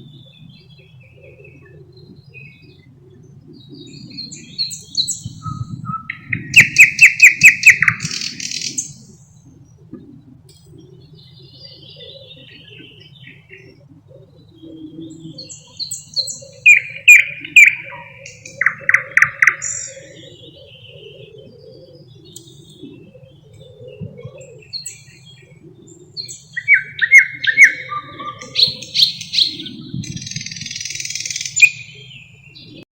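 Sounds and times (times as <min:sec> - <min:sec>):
nightingale singing: 0:03.5 - 0:09.9, 0:10.6 - 0:32.8.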